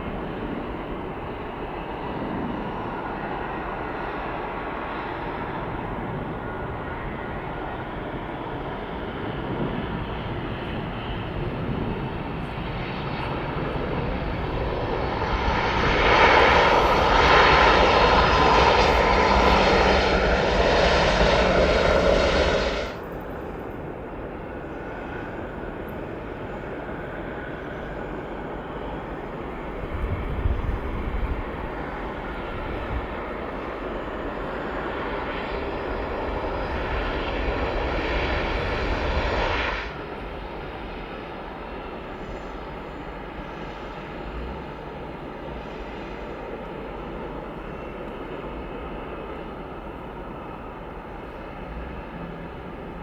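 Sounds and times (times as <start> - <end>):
airliner engines passing: 0.0 - 53.0
steady engine whine: 0.0 - 53.0.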